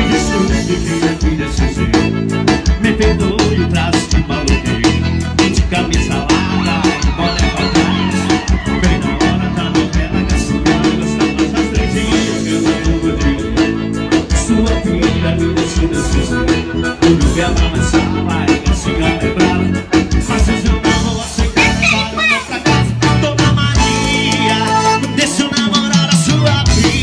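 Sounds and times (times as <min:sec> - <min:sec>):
live band music over sound system: 0:00.0 - 0:27.0.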